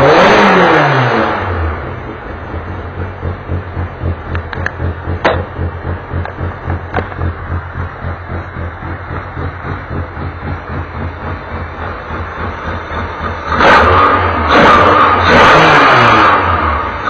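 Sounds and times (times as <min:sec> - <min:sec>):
race car engine idling and revving: 0:00.0 - 0:17.0.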